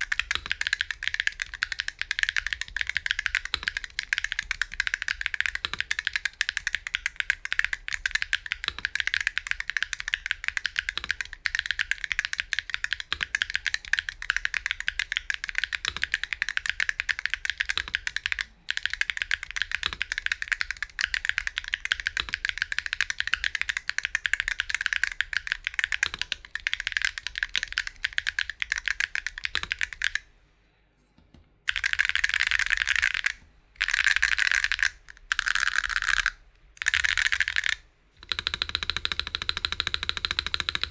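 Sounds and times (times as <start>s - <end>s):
mechanical keyboard typing: 0.0s - 30.2s, 31.7s - 40.9s.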